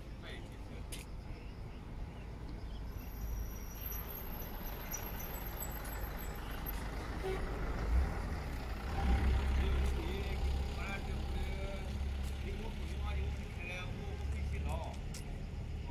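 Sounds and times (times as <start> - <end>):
truck engine rumbling: 0.0 - 15.9.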